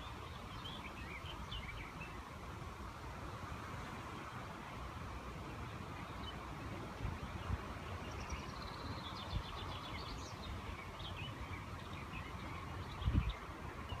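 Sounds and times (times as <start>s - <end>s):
background hiss: 0.0s - 14.0s
songbird singing: 0.0s - 14.0s.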